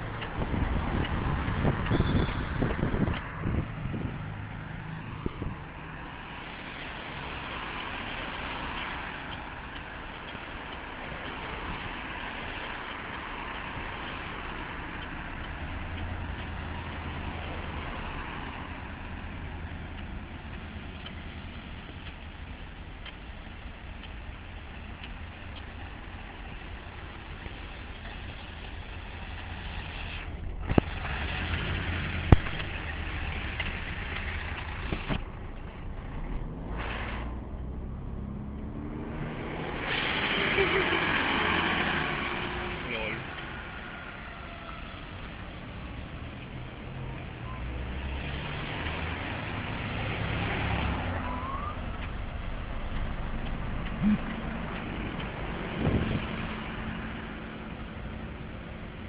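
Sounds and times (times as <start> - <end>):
bicycle road and wind noise: 0.0 - 59.0.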